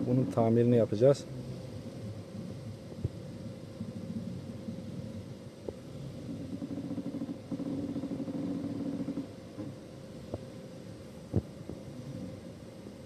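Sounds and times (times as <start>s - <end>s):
engine idle hum: 0.0s - 13.0s.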